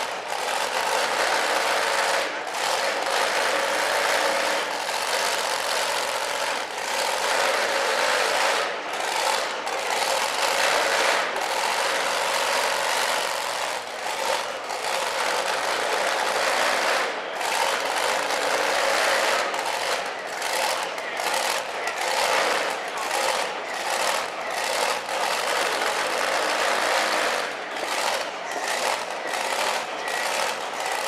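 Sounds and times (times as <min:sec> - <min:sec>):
truck engine idling loudly: 0:00.0 - 0:31.0.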